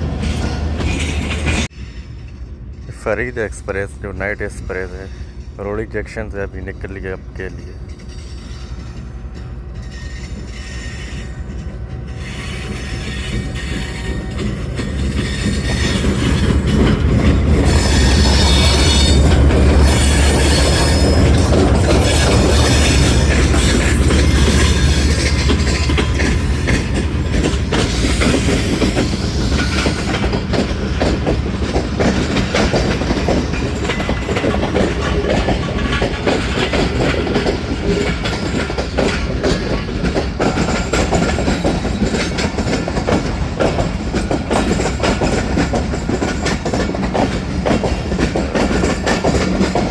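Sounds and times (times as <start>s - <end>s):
diesel locomotive rumble: 0.0s - 49.9s
train wheels clattering over joints: 0.0s - 49.9s.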